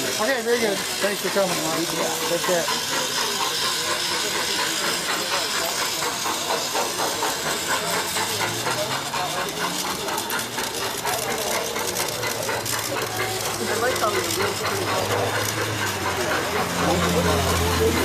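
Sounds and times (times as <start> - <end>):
model train motor hum: 0.0 - 18.0
wheels ticking on track: 0.0 - 18.0.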